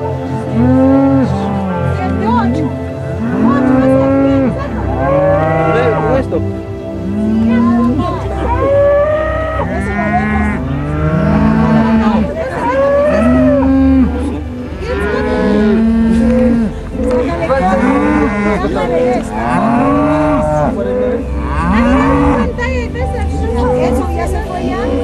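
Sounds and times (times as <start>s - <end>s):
cows mooing: 0.0s - 6.3s, 7.0s - 25.0s.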